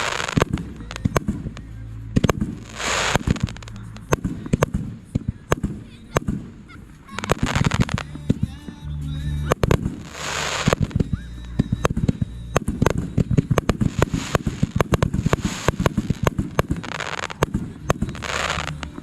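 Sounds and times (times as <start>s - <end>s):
fireworks hissing crackle: 0.0s - 19.0s
fireworks popping and banging: 0.0s - 19.0s.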